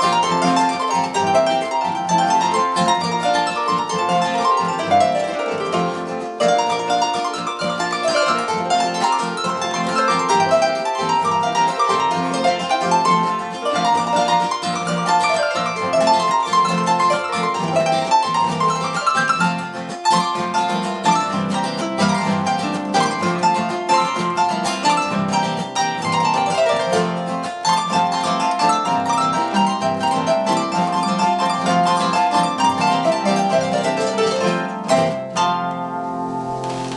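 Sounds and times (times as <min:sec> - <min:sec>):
harp playing: 0:00.0 - 0:36.9.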